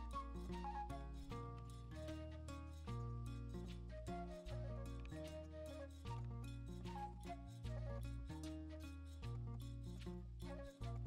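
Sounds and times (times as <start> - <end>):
held melody notes: 0.0 - 8.9.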